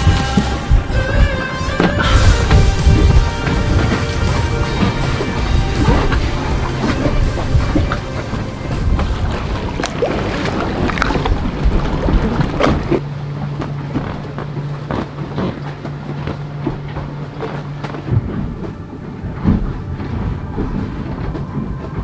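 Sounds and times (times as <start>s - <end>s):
steady low hum: 0.0s - 22.0s
taps and knocks on a boat: 0.0s - 22.0s
wind: 0.0s - 22.0s.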